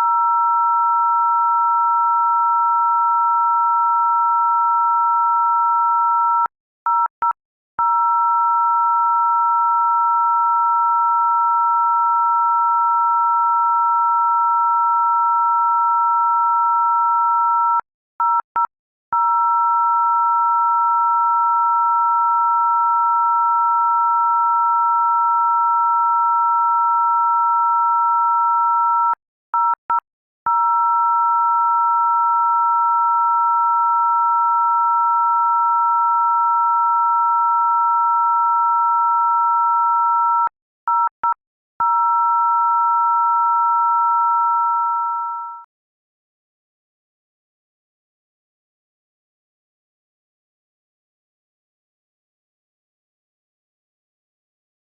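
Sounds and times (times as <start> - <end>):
two-tone electronic tone: 0.0 - 45.7.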